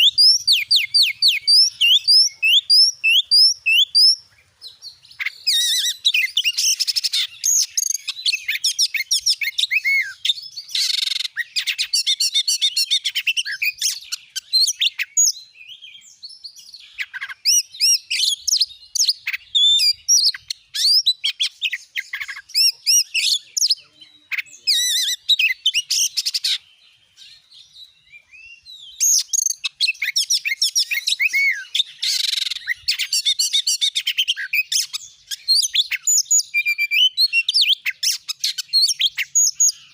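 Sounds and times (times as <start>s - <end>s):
songbird whistling and chattering: 0.0s - 39.9s.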